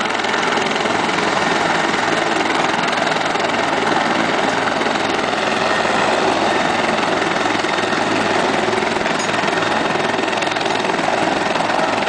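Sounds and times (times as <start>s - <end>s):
helicopter turbine and rotor: 0.0s - 12.0s.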